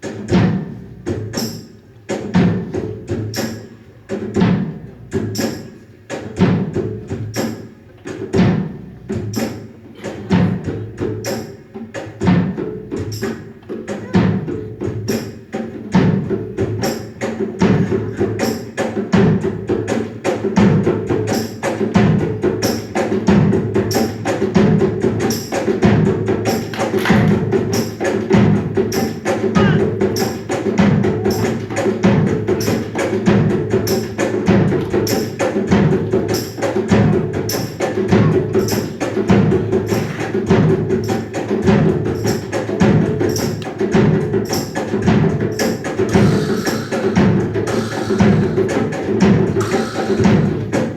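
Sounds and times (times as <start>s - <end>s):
percussive background music: 0.0s - 50.9s.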